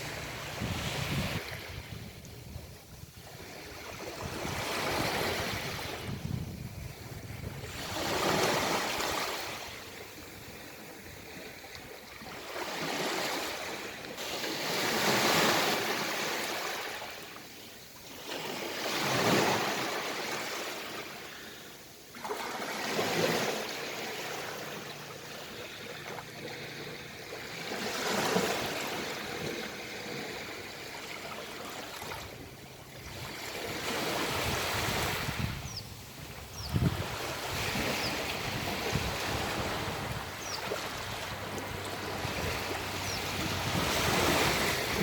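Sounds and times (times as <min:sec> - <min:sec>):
sea waves breaking on beach: 0:00.0 - 0:45.0.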